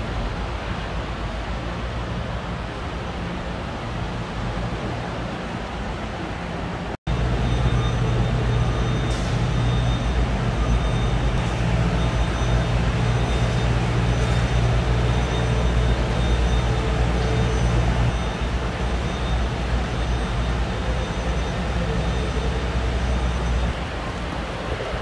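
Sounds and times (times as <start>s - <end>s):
factory machinery hum and rumble: 0.0s - 25.0s.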